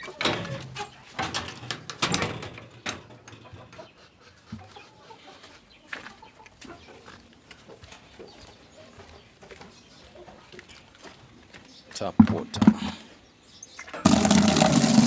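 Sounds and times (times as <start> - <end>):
chickens clucking: 0.0 - 13.2.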